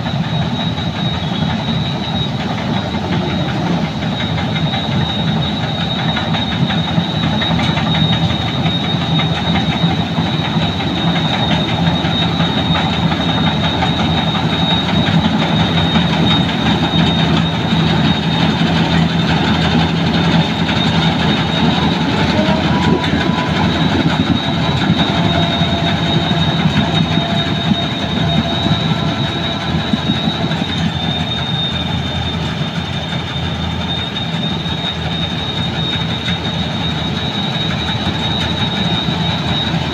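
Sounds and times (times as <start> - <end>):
combine harvester working: 0.0 - 39.9.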